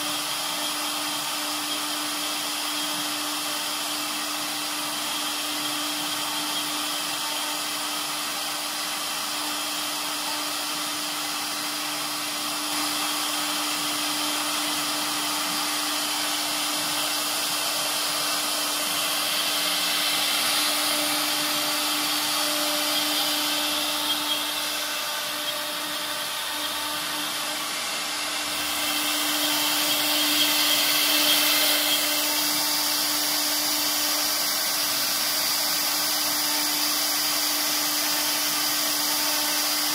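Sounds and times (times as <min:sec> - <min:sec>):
bit cutting wood: 0:00.0 - 0:39.9
router spindle hum: 0:00.0 - 0:39.9.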